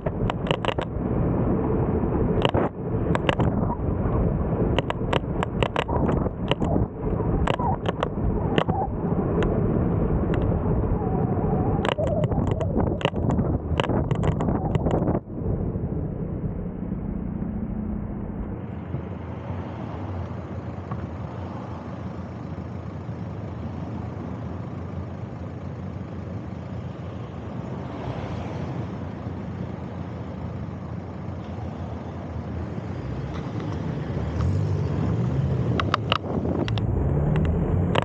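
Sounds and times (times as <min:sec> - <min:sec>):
passing vehicle rumble: 0:00.0 - 0:26.0, 0:30.8 - 0:38.0
wind and road rush: 0:00.0 - 0:38.0.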